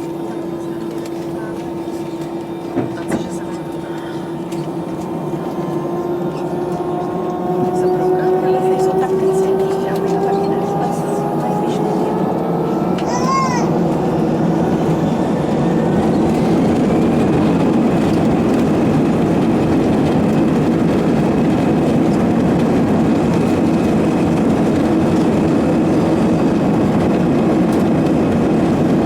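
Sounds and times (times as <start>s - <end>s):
high engine whine: 0.0s - 29.0s
jet engine cabin noise: 0.0s - 29.0s.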